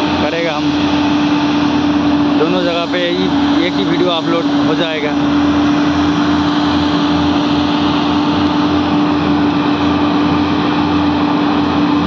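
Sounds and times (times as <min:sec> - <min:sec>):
truck diesel engines under load: 0:00.0 - 0:12.0.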